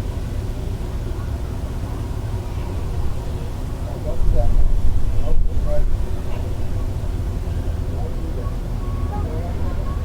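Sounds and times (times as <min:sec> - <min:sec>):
low rumble of vehicles: 0:00.0 - 0:10.0.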